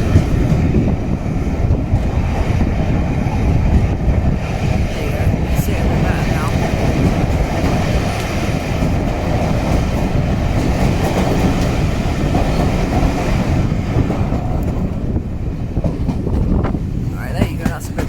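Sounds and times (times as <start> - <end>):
carriages rumbling on track: 0.0 - 18.0.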